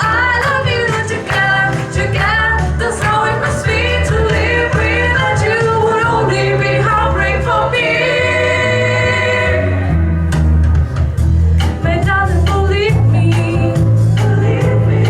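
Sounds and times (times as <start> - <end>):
sustained bass: 0.0 - 15.0.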